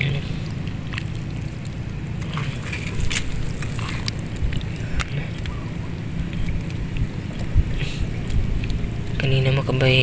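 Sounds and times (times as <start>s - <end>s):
small clicks and wet crackles: 0.0s - 10.0s
wind rumbling on microphone: 0.0s - 10.0s.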